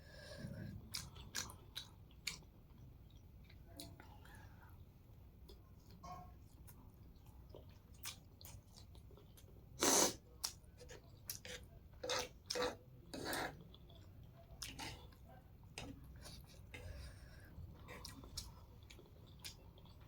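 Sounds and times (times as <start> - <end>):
close chewing of noodles: 0.8 - 3.9, 6.6 - 20.0.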